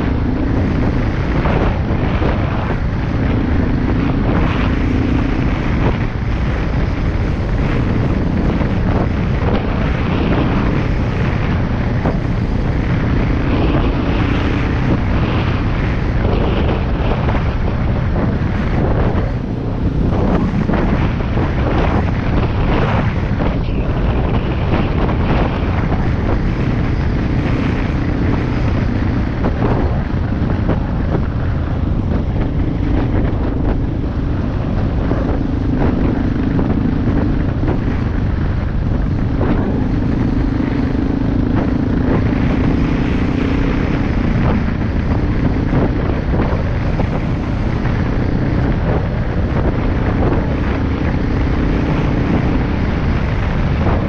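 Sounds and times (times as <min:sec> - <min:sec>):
vehicle engine and road noise: 0:00.0 - 0:54.0
wind buffeting microphone: 0:00.0 - 0:54.0.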